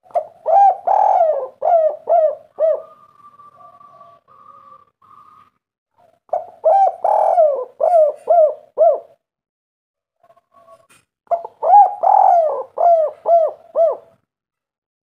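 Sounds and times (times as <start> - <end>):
dove cooing: 0.0 - 9.2, 10.2 - 14.2.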